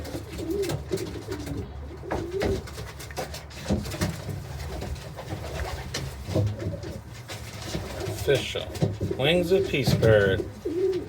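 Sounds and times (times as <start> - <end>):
doves cooing: 0.0 - 11.0.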